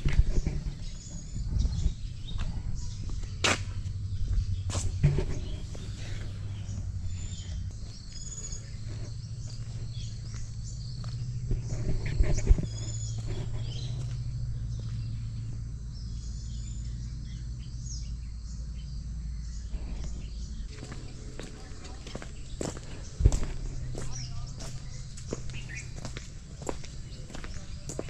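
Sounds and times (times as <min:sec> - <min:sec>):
birds chirping: 0:00.0 - 0:28.0
insects calling: 0:00.0 - 0:28.0
low steady hum: 0:00.0 - 0:28.0.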